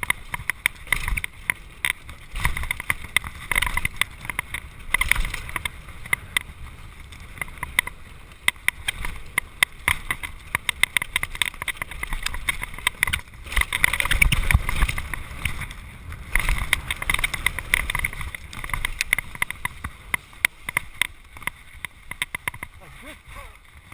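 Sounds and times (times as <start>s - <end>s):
bike clattering over bumps: 0.0s - 22.9s
tyres rumbling on dirt: 0.0s - 23.9s.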